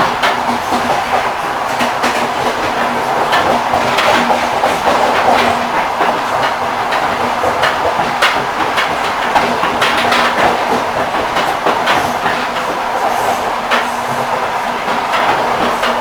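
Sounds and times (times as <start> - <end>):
train rolling rumble: 0.0 - 16.0
wheels clicking over rail joints: 0.0 - 16.0.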